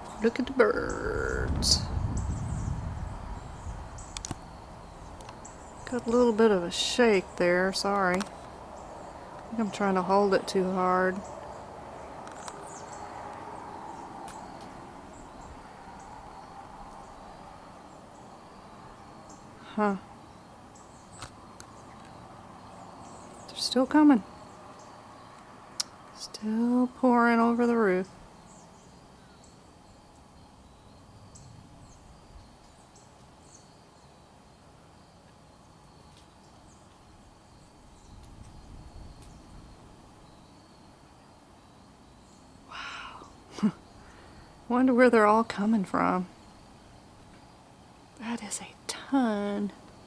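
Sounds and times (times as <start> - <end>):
faint steady hiss: 0.0 - 50.0.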